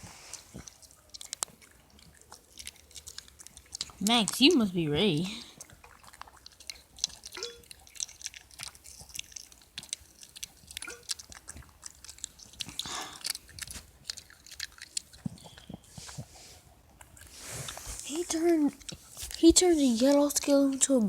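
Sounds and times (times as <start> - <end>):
dog crunching hard candy: 0.3 - 16.3, 16.9 - 21.0.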